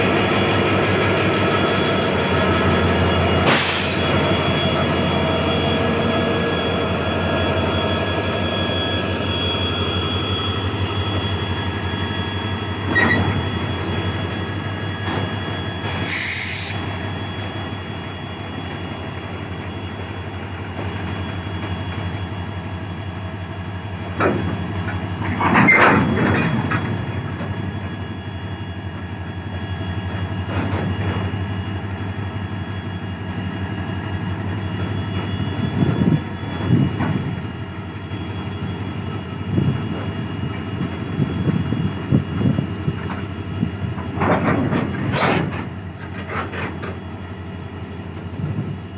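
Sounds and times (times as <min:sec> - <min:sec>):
diesel locomotive engine humming: 0:00.0 - 0:48.9
rail noise: 0:00.0 - 0:48.9.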